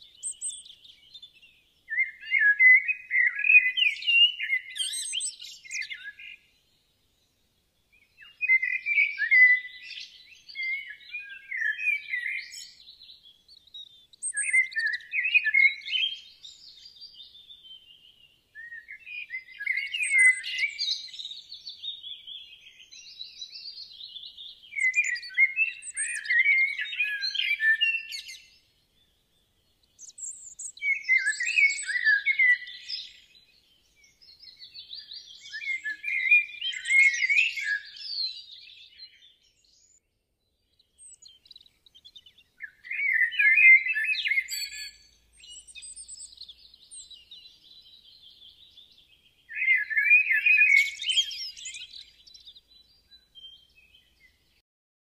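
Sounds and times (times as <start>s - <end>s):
songbird chirping and trilling: 0.0s - 54.6s.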